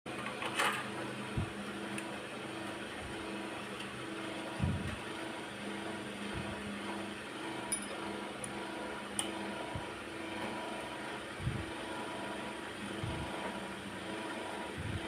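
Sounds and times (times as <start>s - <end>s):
mechanical hum: 0.1s - 15.0s.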